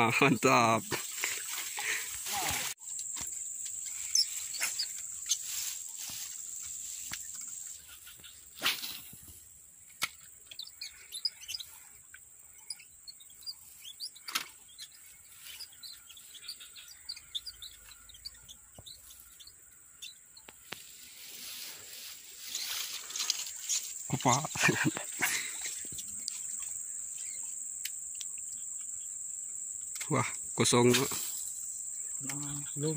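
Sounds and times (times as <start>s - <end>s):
high-pitched insect drone: 0.0s - 32.9s
small birds chirping: 0.0s - 32.9s.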